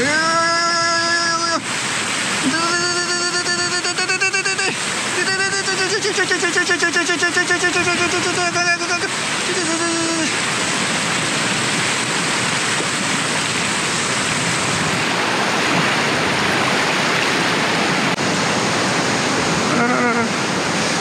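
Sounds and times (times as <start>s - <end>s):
river rapids rushing over rocks: 0.0s - 21.0s.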